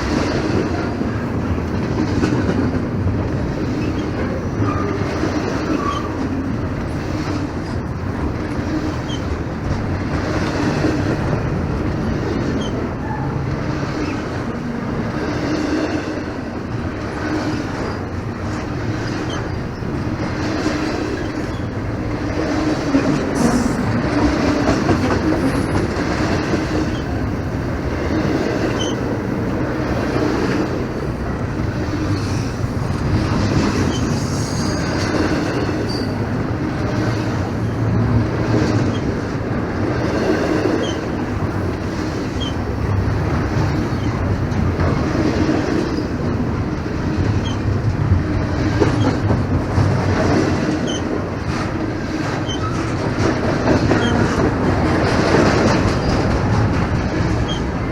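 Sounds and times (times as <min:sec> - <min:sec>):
freight train cars rumbling past: 0:00.0 - 0:57.9
wheels clicking over rail joints: 0:00.0 - 0:57.9.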